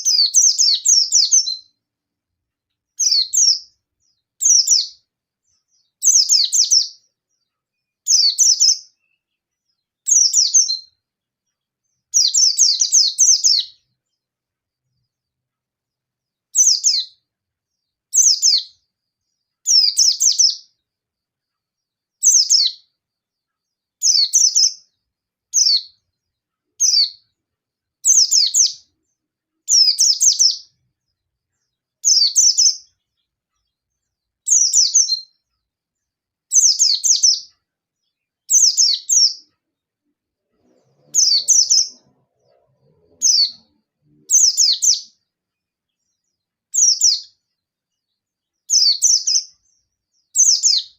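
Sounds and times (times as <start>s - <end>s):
bird singing high chirps: 0.0s - 1.9s, 2.8s - 15.4s, 16.2s - 20.9s, 21.6s - 27.4s, 28.0s - 39.9s, 40.5s - 50.9s.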